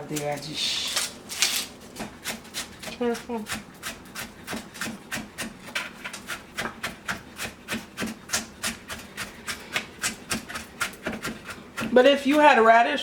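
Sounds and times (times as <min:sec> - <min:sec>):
knife slicing onion: 0:00.0 - 0:13.0.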